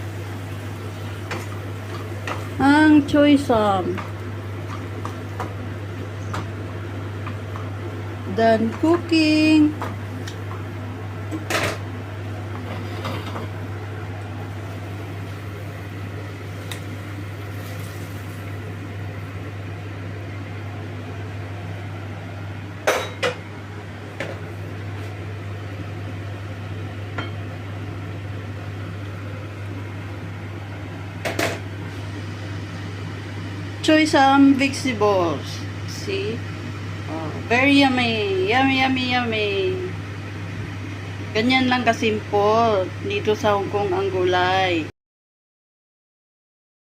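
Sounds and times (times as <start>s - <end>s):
kitchen appliance humming: 0.0s - 44.9s.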